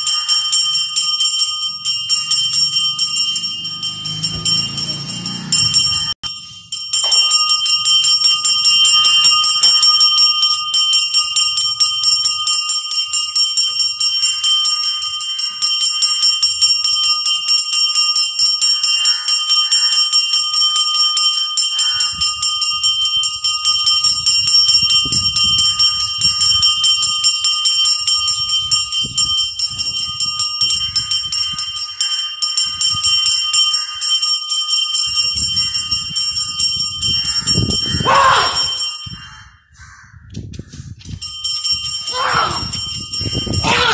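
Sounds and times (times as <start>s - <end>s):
bell rung rapidly: 0.0s - 39.2s, 41.0s - 43.9s.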